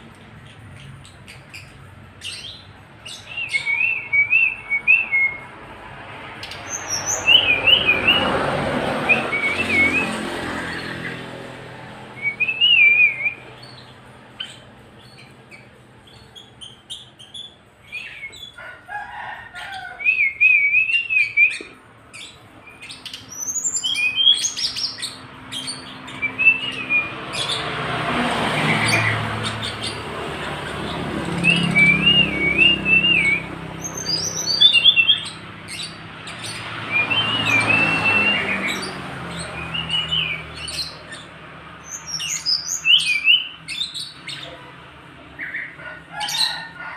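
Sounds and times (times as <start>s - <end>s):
songbird whistling song: 0.4s - 5.5s, 6.4s - 8.3s, 9.0s - 11.2s, 12.1s - 18.6s, 19.8s - 27.8s, 28.5s - 44.6s.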